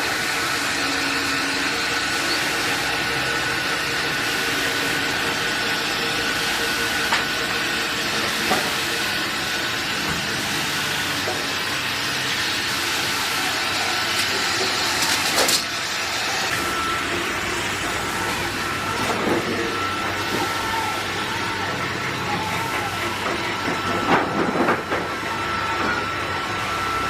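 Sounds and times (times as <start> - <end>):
sawmill machinery hissing: 0.0 - 27.0.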